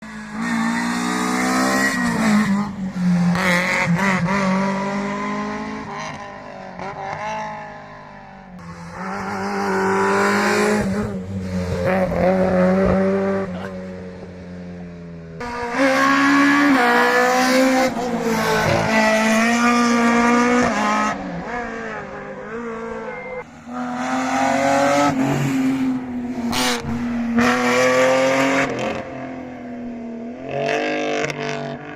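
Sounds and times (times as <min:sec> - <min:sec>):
rally car engine revving: 0:00.0 - 0:08.0, 0:08.6 - 0:14.5, 0:15.4 - 0:29.4.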